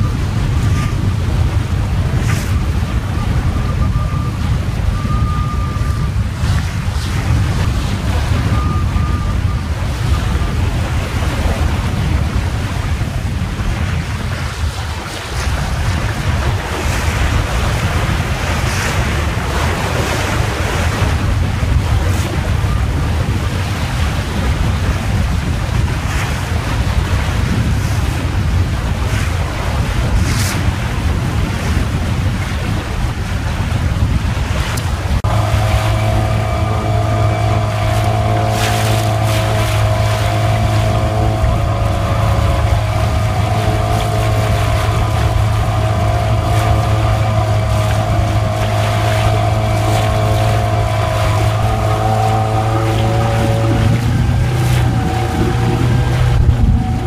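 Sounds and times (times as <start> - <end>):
water splashing along hull: 0.0 - 57.0
wind buffeting microphone: 0.0 - 57.0.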